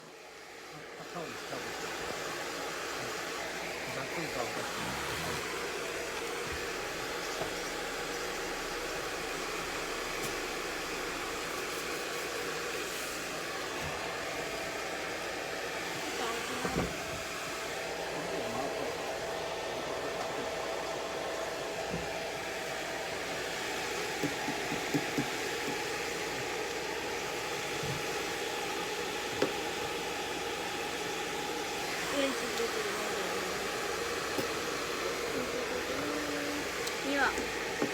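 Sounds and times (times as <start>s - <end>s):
hair dryer blowing: 0.0s - 37.9s.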